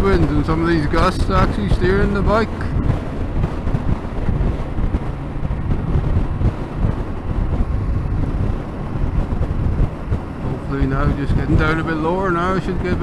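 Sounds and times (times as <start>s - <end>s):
motorcycle engine cruising: 0.0s - 13.0s
wind buffeting microphone: 0.0s - 13.0s.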